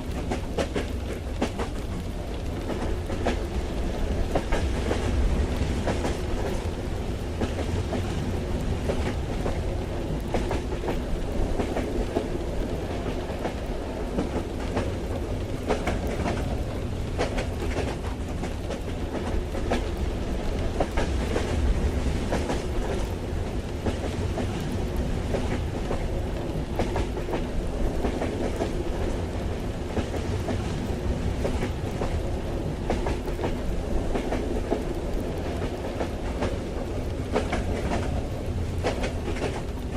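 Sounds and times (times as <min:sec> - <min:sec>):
light rain ticking on carriage: 0:00.0 - 0:39.9
train rumbling on rails: 0:00.0 - 0:39.9.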